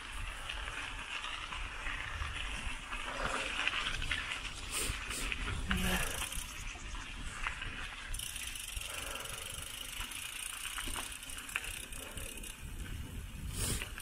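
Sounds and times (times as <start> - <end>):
bike tyres rolling on path: 0.0 - 14.0
sharp clicks from bike: 0.0 - 14.0.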